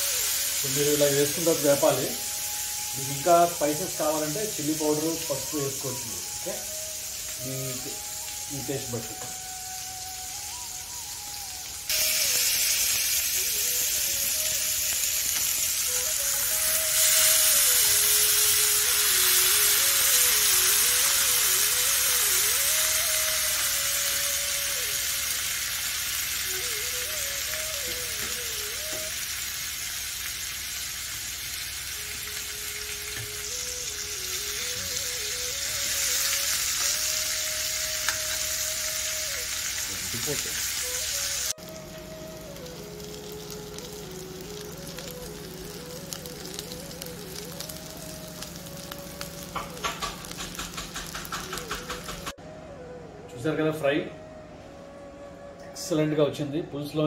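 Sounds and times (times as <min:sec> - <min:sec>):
fish sizzling in frying pan: 0:00.0 - 0:52.4.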